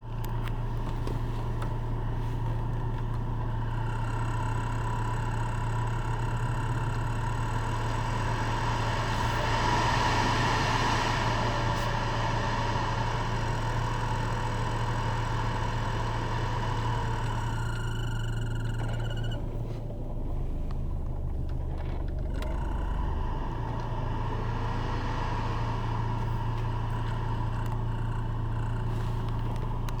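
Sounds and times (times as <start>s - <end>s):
blower fan whining: 0.0s - 30.0s
low hum: 0.0s - 30.0s.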